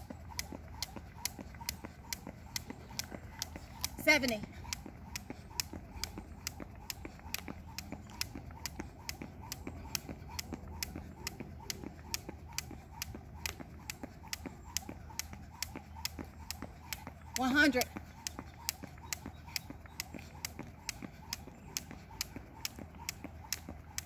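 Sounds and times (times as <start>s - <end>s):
jump rope slapping pavement: 0.0s - 24.0s.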